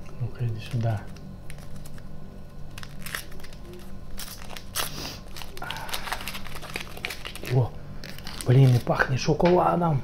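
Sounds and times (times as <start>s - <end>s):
candy wrapper crinkling: 0.4s - 9.3s.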